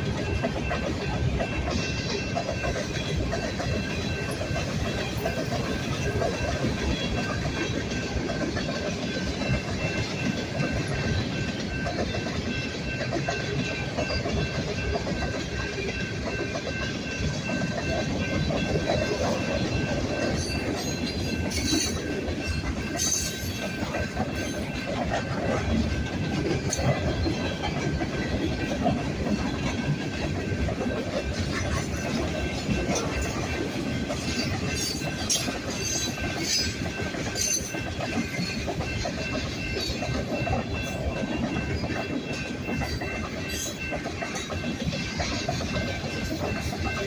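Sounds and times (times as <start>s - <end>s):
freight train rumbling past: 0.0s - 47.0s
wheels clicking over rail joints: 0.0s - 47.0s.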